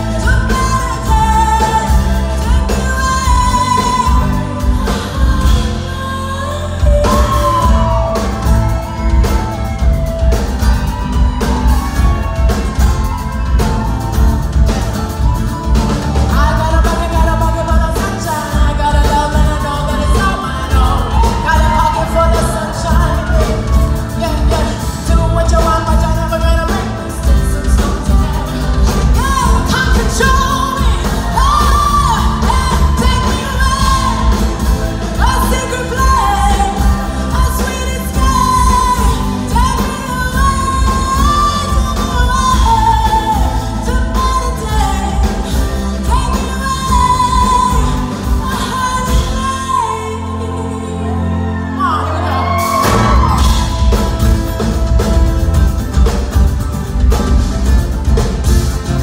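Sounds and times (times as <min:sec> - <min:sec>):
woman singing live pop: 0:00.0 - 0:56.2
band playing drums guitars keyboard: 0:00.0 - 0:59.0.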